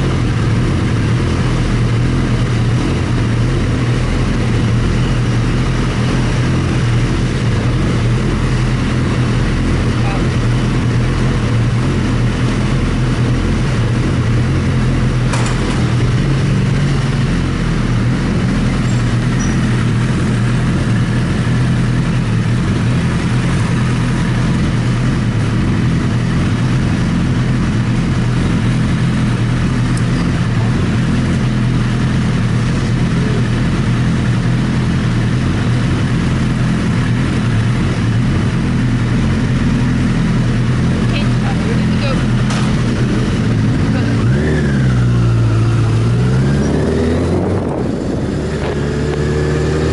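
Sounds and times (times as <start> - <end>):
vehicle engine running steadily: 0.0 - 49.9.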